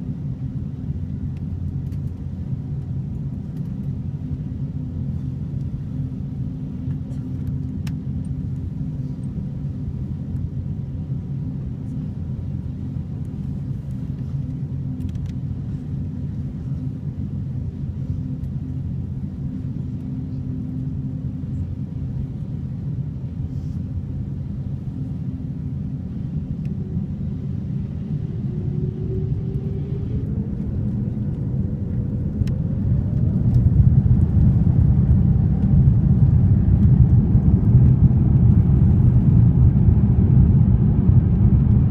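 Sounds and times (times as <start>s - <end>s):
jet engine whine: 0.0s - 41.9s
jet engines rumbling: 0.0s - 41.9s.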